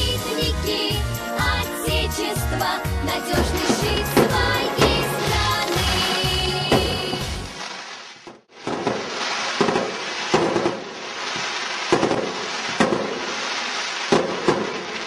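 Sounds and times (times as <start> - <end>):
fireworks crackling and banging: 2.6 - 15.0.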